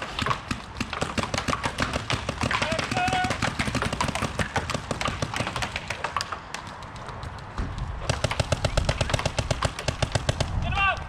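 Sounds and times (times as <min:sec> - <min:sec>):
paintball markers firing: 0:00.0 - 0:11.0.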